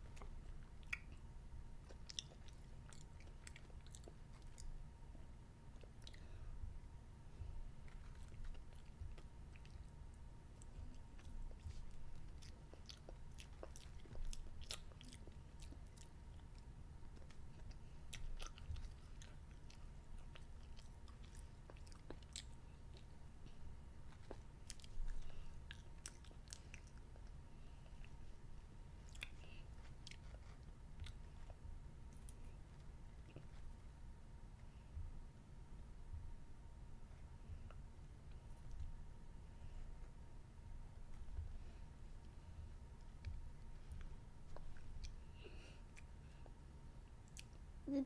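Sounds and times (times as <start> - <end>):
child chewing candy: 0.0 - 6.6, 7.4 - 35.0, 37.0 - 40.2, 41.0 - 48.0.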